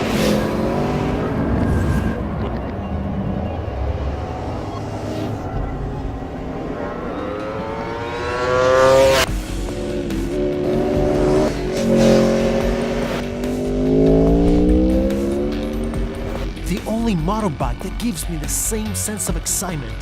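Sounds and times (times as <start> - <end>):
motorcycle engine accelerating: 0.0 - 16.6.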